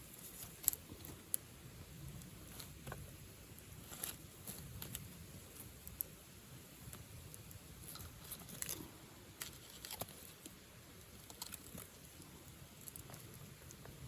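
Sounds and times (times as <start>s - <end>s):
fire crackling and popping: 0.0s - 14.0s
low rumble of burning fire: 0.0s - 14.0s.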